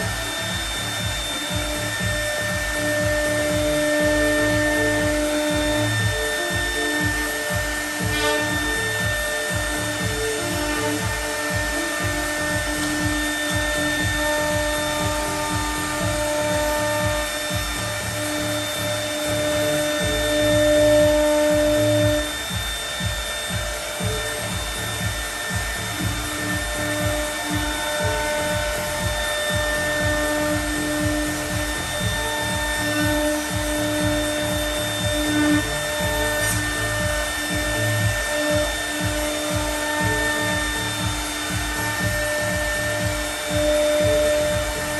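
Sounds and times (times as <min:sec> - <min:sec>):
router spindle milling: 0:00.0 - 0:44.9.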